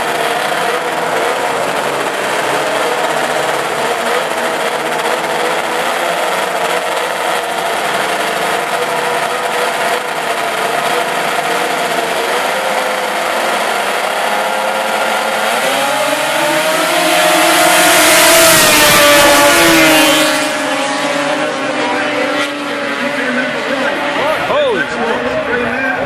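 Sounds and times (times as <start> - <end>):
snowmobile engines revving: 0.0 - 26.0.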